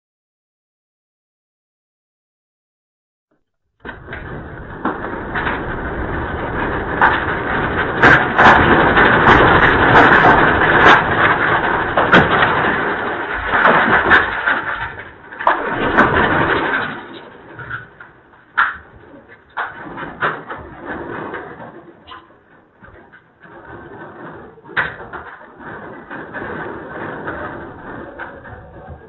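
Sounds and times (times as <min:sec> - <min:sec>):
building rumbling in earthquake: 0:03.8 - 0:29.0
rattles and knocks: 0:03.8 - 0:29.0.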